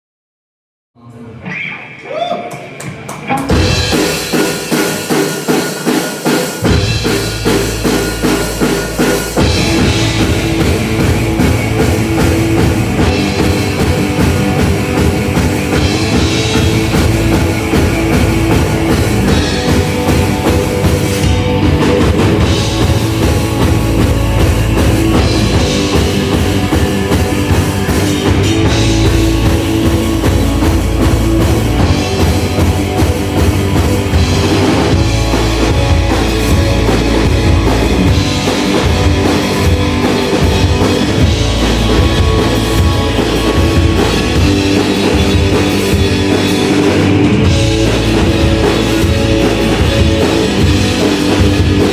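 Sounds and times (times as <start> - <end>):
rock band playing live: 1.4 - 51.9
drum kit: 1.8 - 51.9.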